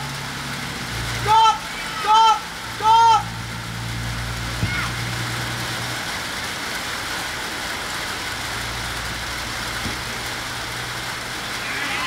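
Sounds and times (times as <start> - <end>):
outdoor hiss: 0.0 - 12.0.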